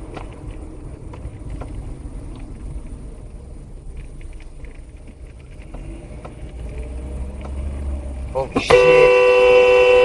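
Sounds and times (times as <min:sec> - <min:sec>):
road and engine noise in car cabin: 0:00.0 - 0:10.0.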